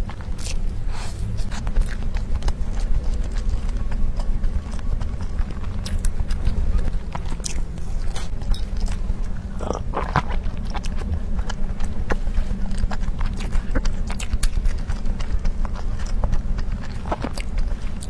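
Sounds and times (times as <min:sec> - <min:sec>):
person chewing food: 0:00.0 - 0:18.0
steady low hum: 0:00.0 - 0:18.0.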